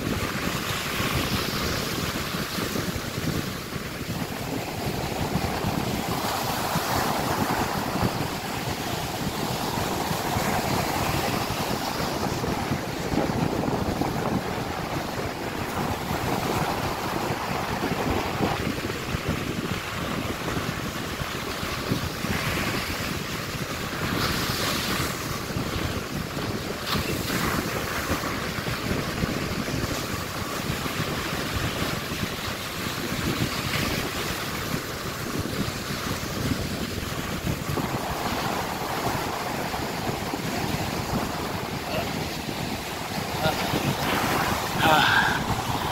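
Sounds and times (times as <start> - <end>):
ocean surf breaking: 0.0 - 45.9
wind buffeting microphone: 0.0 - 45.9.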